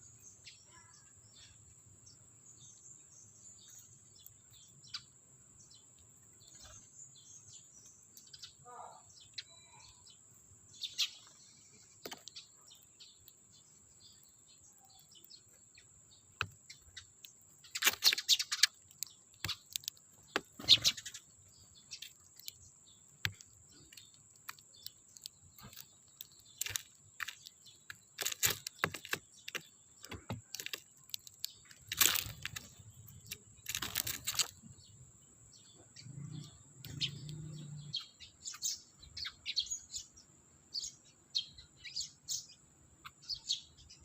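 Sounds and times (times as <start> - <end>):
sparrows chirping: 0.0 - 44.0.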